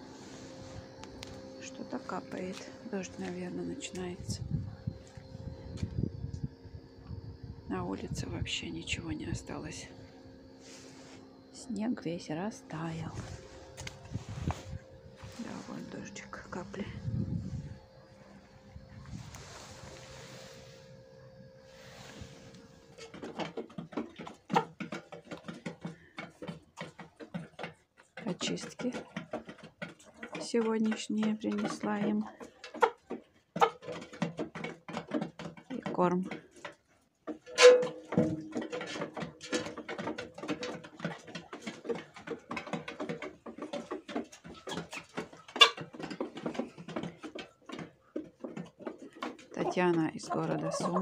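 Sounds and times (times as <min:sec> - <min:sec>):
hens pecking metal trough: 0:00.0 - 0:06.1, 0:07.8 - 0:20.0, 0:21.2 - 0:51.0.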